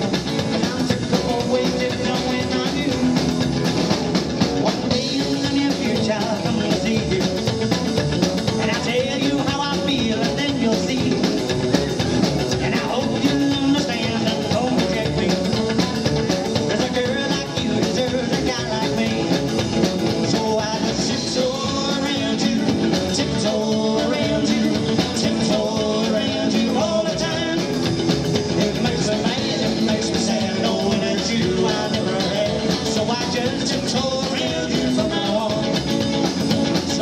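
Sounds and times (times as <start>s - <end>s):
man singing into microphone: 0.0s - 3.3s, 4.6s - 7.6s, 8.6s - 11.4s, 12.5s - 15.6s, 16.6s - 37.0s
rockabilly band playing: 0.0s - 37.0s.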